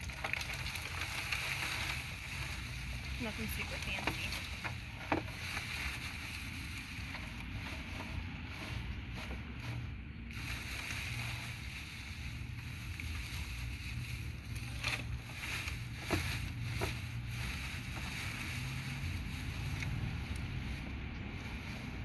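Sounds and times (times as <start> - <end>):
low steady rumble: 0.0 - 22.0
straw rustling: 0.0 - 22.0.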